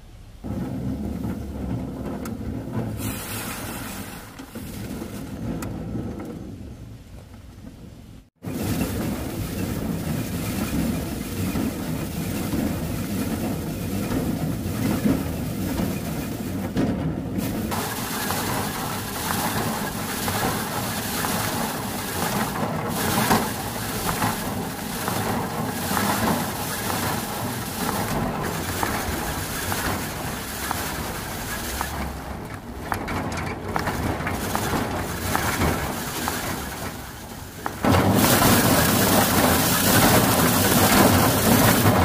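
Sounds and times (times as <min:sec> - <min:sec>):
thresher drum whirring and rattling: 0:00.0 - 0:42.0.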